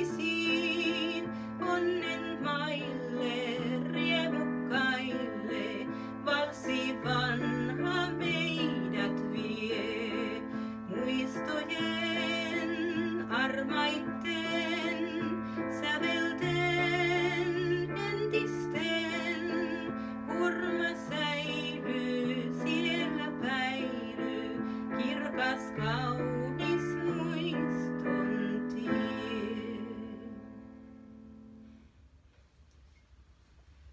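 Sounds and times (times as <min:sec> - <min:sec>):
woman singing a waltz: 0:00.0 - 0:30.8.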